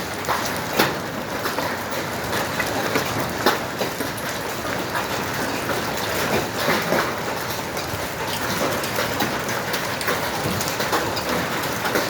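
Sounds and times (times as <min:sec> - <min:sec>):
hailstones pelting a hard surface: 0:00.0 - 0:12.0.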